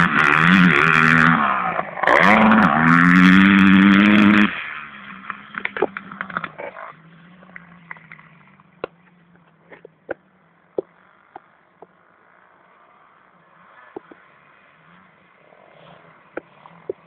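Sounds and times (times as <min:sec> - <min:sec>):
distant dirt bike engine: 0:00.0 - 0:17.0.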